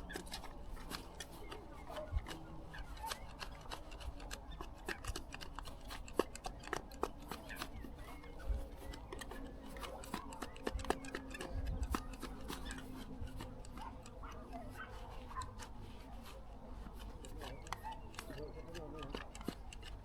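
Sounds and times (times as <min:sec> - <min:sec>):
small sharp clicks and scrapes: 0:00.0 - 0:20.0.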